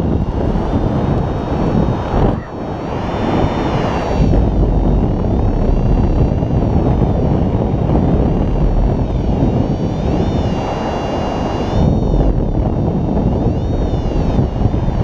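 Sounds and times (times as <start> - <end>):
faint high whine: 0.0 - 15.0
wind buffeting microphone: 0.0 - 15.0.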